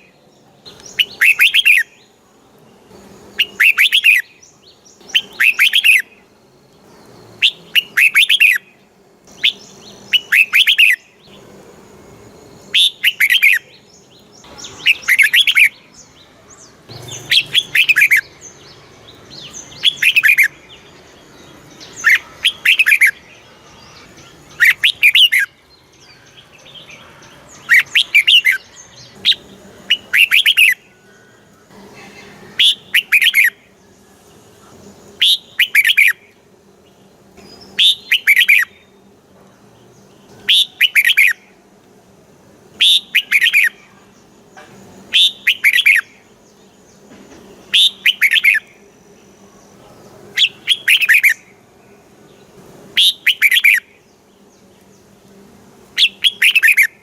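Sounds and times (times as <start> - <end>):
bird singing warbling phrases: 0.0 - 11.5, 12.6 - 41.6, 42.7 - 57.0.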